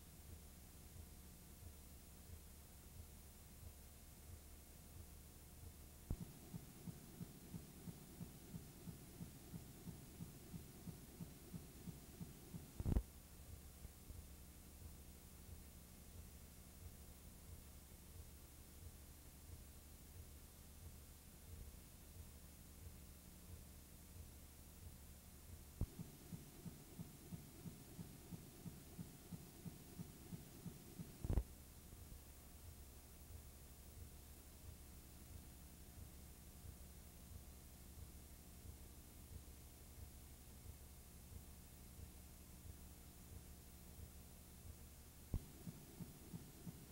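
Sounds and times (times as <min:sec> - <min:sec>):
faint low hum: 0:00.0 - 0:46.9
soft regular thumps: 0:00.3 - 0:46.9.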